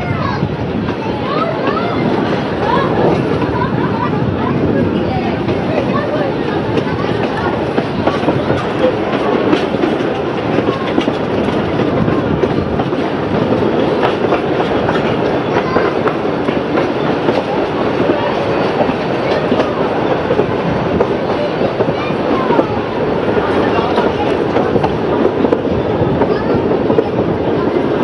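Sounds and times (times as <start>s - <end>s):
train carriages rumbling: 0.0s - 28.0s
wheels clacking over rail joints: 0.6s - 28.0s.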